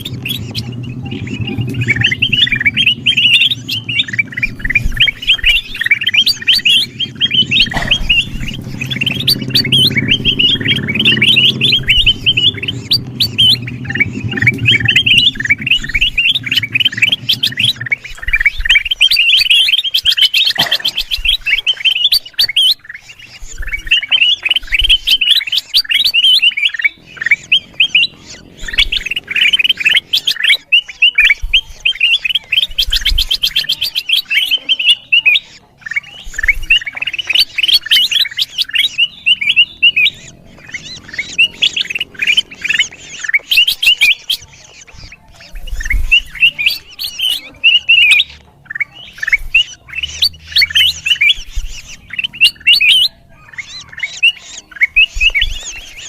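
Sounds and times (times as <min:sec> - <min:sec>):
bird chattering chirps: 0:00.0 - 0:56.0.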